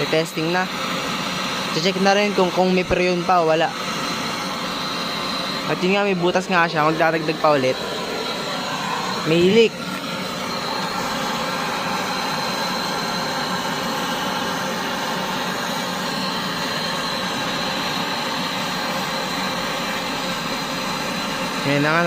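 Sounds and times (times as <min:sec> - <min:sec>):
torch hissing: 0:00.0 - 0:22.0.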